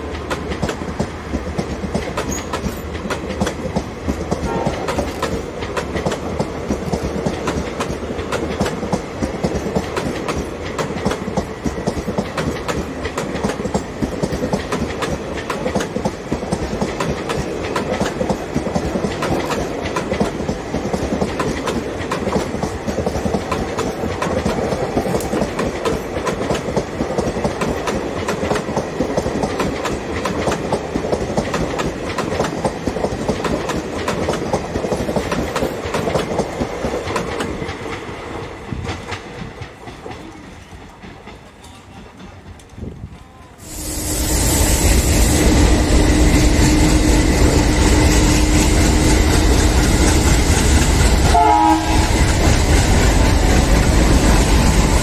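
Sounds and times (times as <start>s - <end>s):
train wheels clattering over joints: 0.0s - 43.0s, 44.7s - 55.0s.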